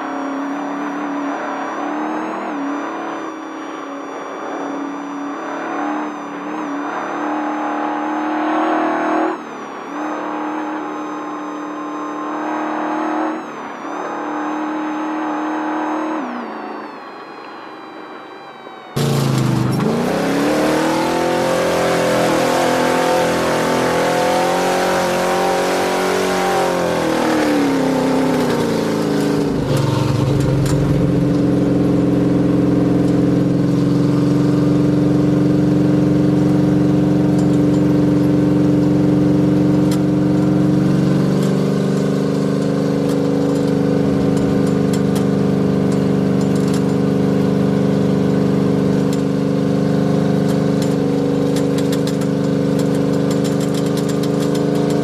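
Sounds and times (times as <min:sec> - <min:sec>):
race vehicle engine revving: 0:00.0 - 0:16.7, 0:19.0 - 0:55.0.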